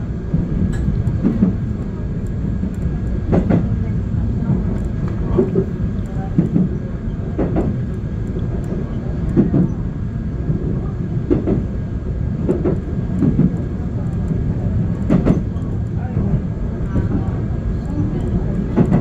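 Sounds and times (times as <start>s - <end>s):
train interior low rumble: 0.0s - 19.0s.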